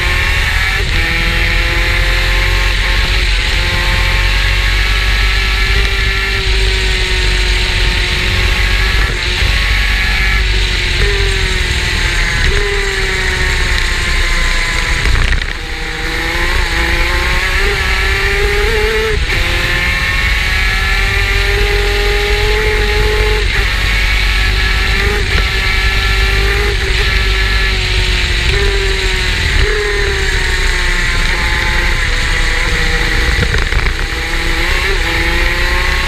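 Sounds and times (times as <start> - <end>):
kart engine at high revs: 0.0 - 36.0
wind and tyre noise: 0.0 - 36.0.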